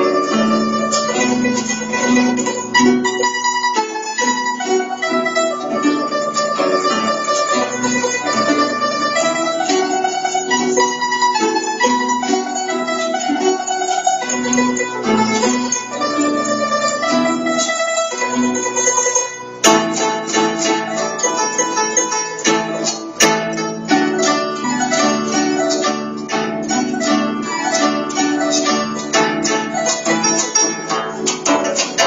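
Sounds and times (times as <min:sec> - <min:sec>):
plucked zither melody: 0:00.0 - 0:32.0.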